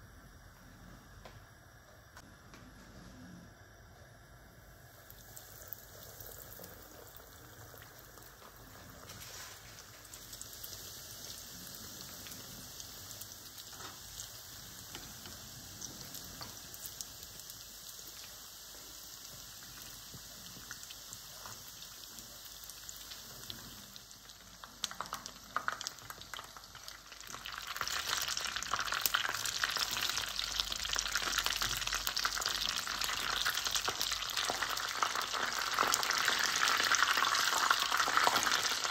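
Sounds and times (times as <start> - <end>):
oil sizzling and crackling: 4.7 - 38.9.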